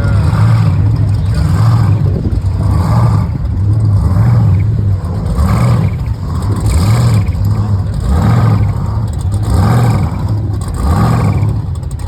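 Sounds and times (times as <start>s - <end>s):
loud car engine and exhaust: 0.0s - 12.0s.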